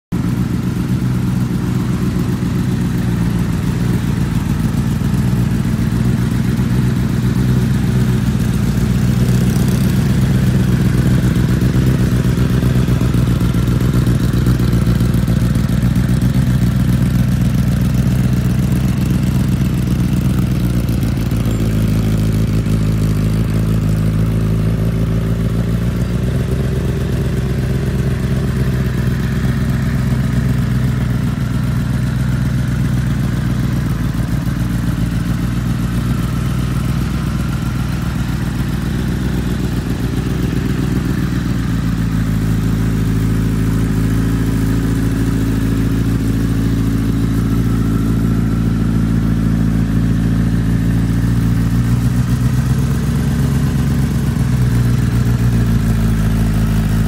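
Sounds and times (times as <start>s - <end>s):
motorcycle engine idling: 0.1s - 57.0s.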